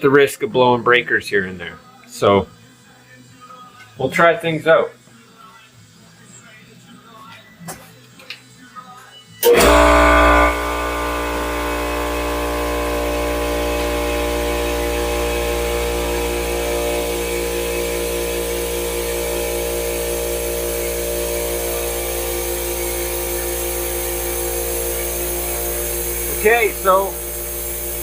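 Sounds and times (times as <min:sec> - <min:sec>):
shop vacuum and compressor drone: 0:01.4 - 0:28.0.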